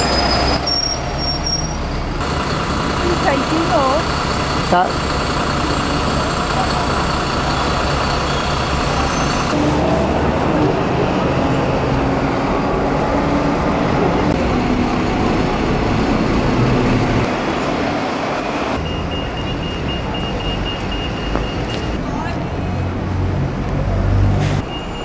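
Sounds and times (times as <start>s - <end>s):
cars and buses passing: 0.0s - 25.0s.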